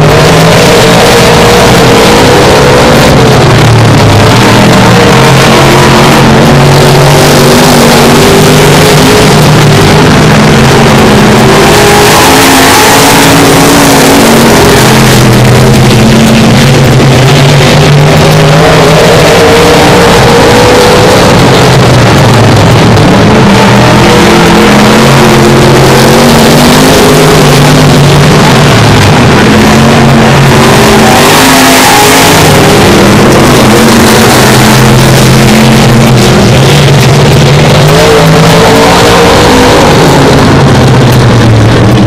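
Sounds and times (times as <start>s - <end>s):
stock car engines racing: 0.0s - 42.0s.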